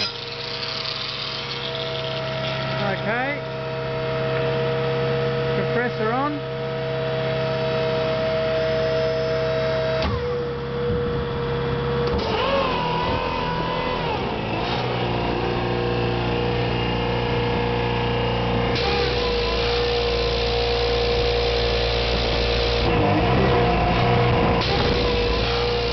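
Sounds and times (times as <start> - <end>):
engine driven pump hum and whine: 0.0 - 25.9.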